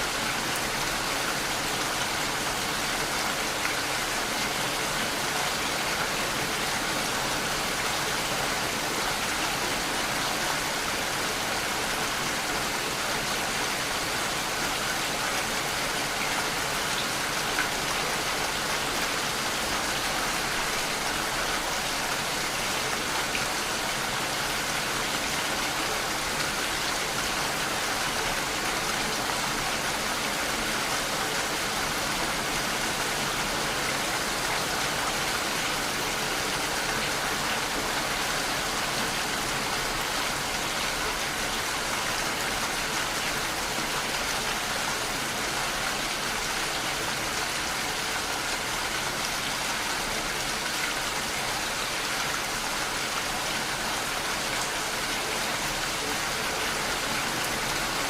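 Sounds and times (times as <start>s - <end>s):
steady rain on surfaces: 0.0s - 58.0s.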